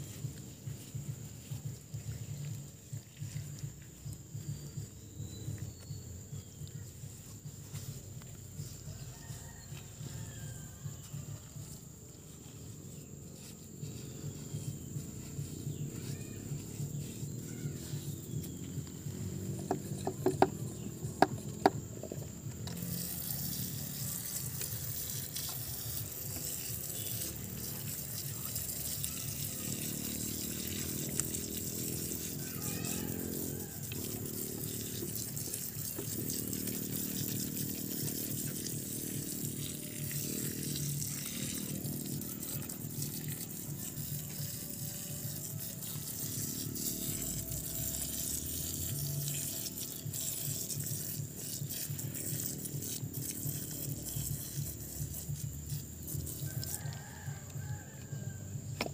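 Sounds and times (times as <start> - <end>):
water jet spraying on soil: 0.0 - 58.9.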